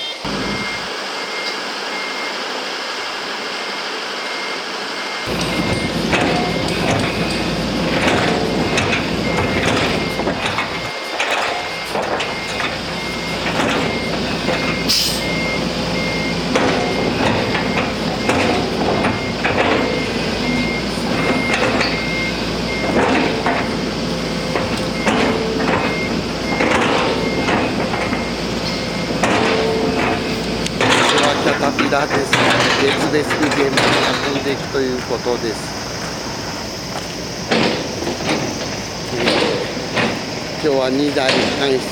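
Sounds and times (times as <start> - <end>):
heavy engine running: 0.0 - 41.9
reversing alarm beeping: 0.0 - 41.9
metallic knocks and clanks: 5.3 - 41.9.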